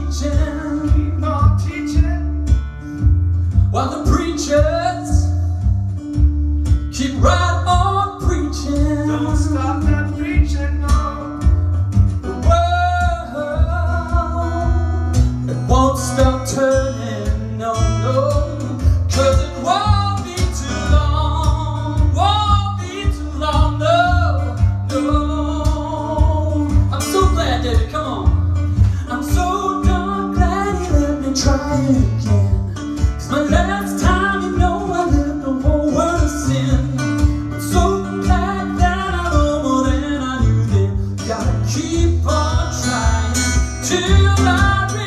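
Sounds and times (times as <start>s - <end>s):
man singing: 0.0s - 2.6s, 3.6s - 5.7s, 6.8s - 45.0s
acoustic guitar: 0.0s - 45.0s
thumping bass rhythm: 0.0s - 45.0s.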